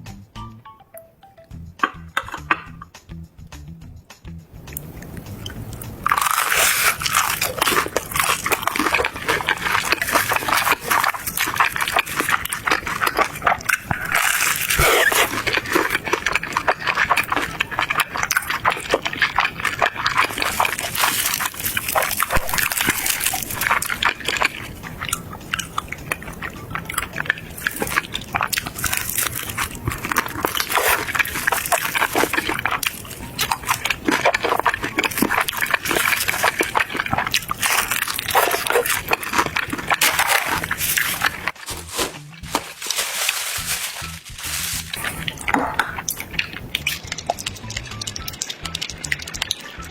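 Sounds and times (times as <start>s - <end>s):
mouth clicks: 4.6s - 41.6s, 44.8s - 49.9s
chewing crunchy food: 4.7s - 49.9s.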